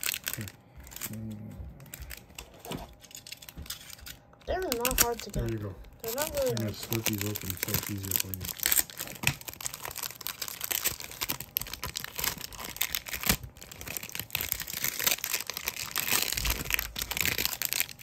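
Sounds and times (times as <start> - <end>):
plastic wrapper crinkling and tearing: 0.0 - 18.0.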